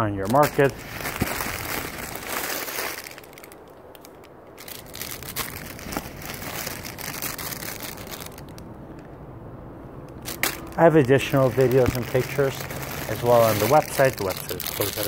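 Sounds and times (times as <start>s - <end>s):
plastic bags crinkling: 0.2s - 8.6s, 10.2s - 15.0s.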